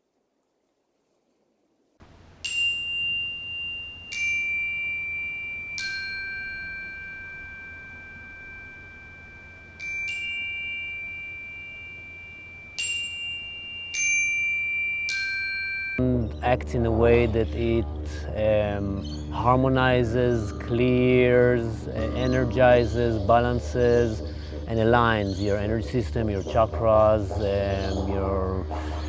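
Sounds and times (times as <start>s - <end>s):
chimes ringing: 2.4s - 16.5s, 18.4s - 29.0s.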